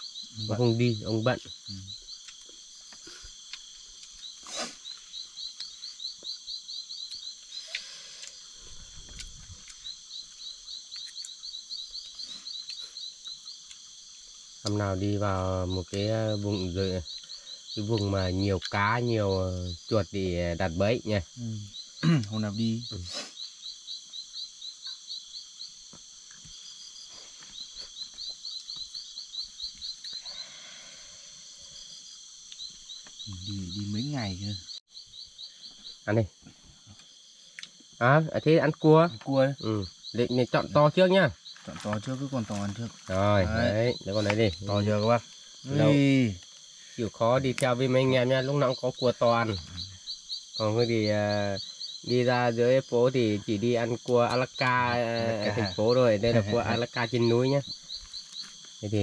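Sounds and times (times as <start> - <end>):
high-pitched insect drone: 0.0 - 59.0
rapid repeated insect chirps: 0.0 - 59.0.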